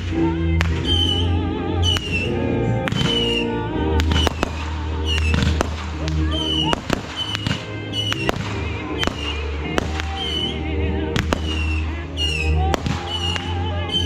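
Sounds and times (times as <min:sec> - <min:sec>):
firework bangs and crackles: 0:00.0 - 0:14.0
whistling fireworks: 0:00.0 - 0:14.0.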